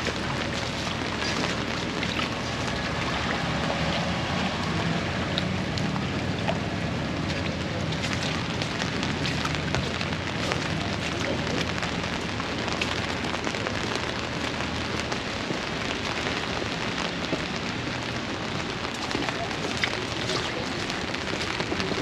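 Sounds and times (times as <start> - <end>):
rain on wet pavement: 0.0 - 22.0.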